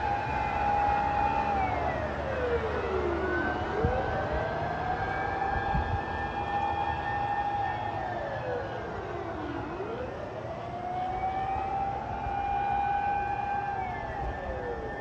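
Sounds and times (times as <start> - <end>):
engine and road rumble: 0.0 - 15.0
mechanical siren wailing: 0.0 - 15.0.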